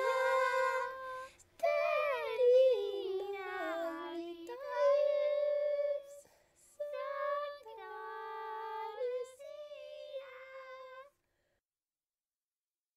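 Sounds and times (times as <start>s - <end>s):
person singing unaccompanied: 0.0s - 11.2s.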